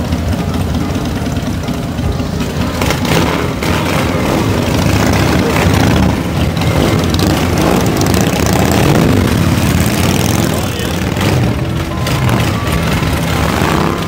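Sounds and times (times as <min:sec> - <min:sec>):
motorcycle engines pulling away: 0:00.0 - 0:14.0.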